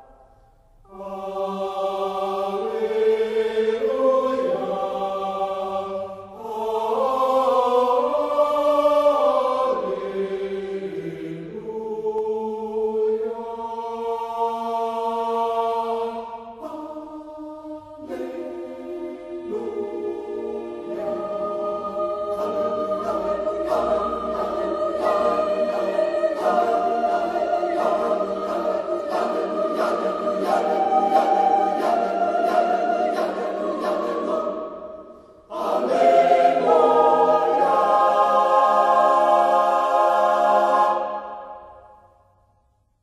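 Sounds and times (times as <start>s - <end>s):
choir singing held chords: 0.0s - 42.4s.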